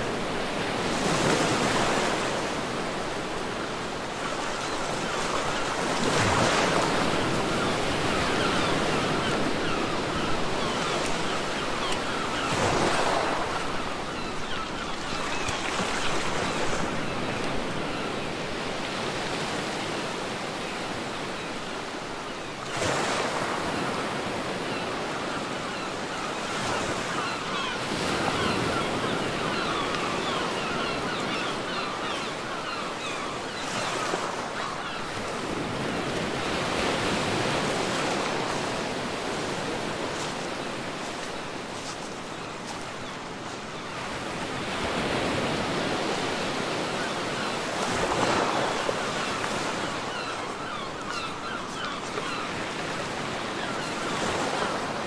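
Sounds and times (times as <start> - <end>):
ocean surf on a beach: 0.0 - 55.0.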